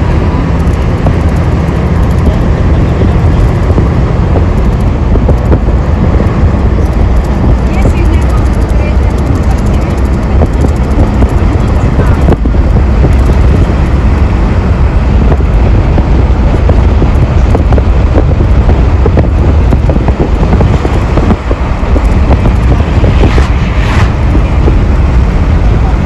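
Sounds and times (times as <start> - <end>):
vehicle rumble and road noise: 0.0 - 26.0
wind on microphone: 0.0 - 26.0.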